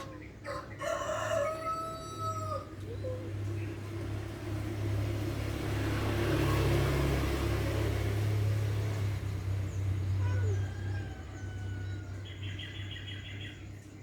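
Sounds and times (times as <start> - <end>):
vehicle engine humming: 2.6 - 14.0.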